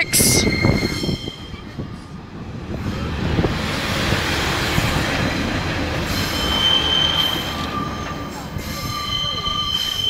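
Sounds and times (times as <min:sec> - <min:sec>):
diesel train engine and wheel rumble: 0:00.0 - 0:10.0.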